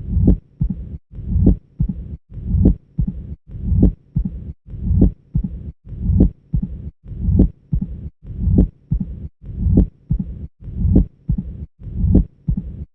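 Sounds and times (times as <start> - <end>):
low diastolic heart rumble: 0.0 - 12.9
sharp heart sounds: 0.0 - 12.9.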